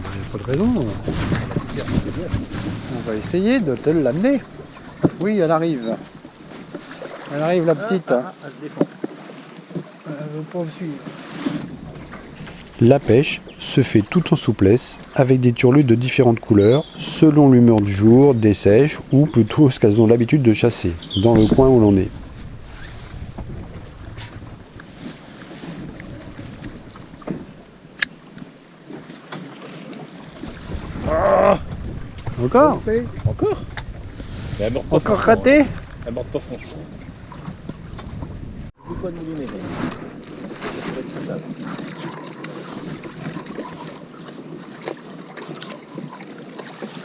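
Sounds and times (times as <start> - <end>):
sea noise: 0.0 - 47.0
water lapping around boat: 0.0 - 47.0
wind: 0.0 - 47.0.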